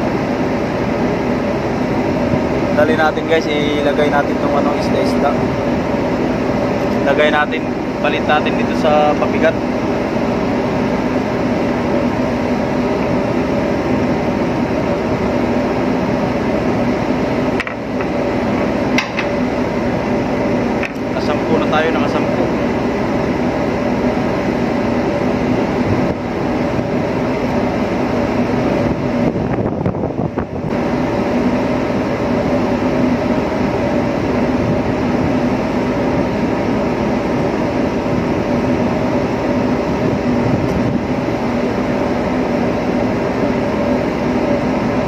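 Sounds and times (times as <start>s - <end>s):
ship machinery drone: 0.0s - 45.0s.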